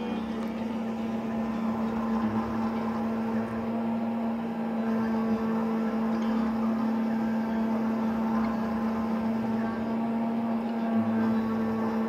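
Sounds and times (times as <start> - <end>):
router spindle humming: 0.0 - 12.0.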